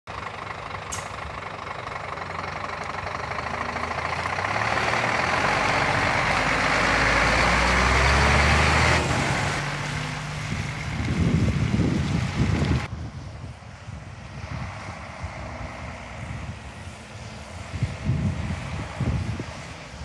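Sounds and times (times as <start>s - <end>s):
diesel truck driving past: 0.1s - 20.0s.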